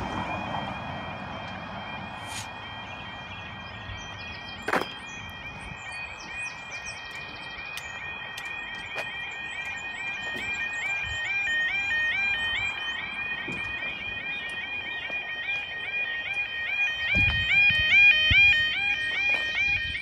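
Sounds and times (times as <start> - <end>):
level crossing warbling alarm: 0.0 - 20.0.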